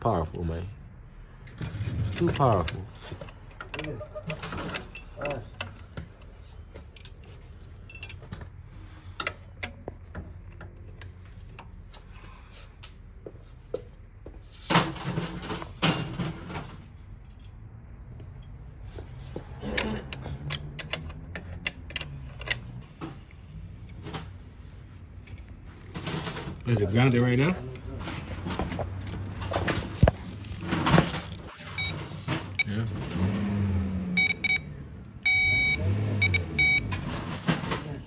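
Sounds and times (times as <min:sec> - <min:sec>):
tools and parts clanking: 0:01.5 - 0:12.2, 0:14.6 - 0:33.5, 0:36.6 - 0:38.0.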